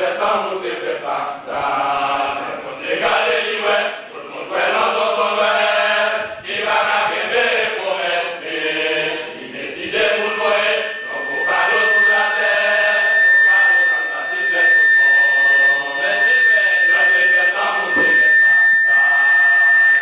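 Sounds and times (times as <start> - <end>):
men's choir singing: 0.0 - 20.0.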